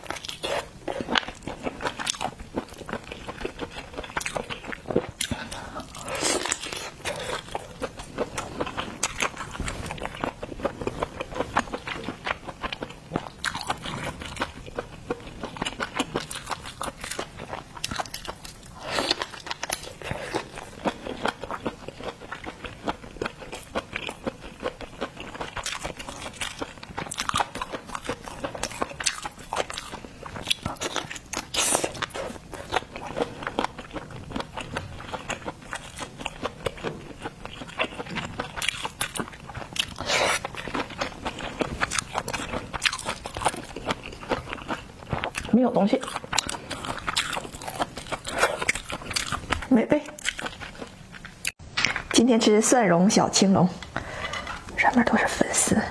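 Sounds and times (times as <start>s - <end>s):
chewing with crunches: 0.0s - 52.1s.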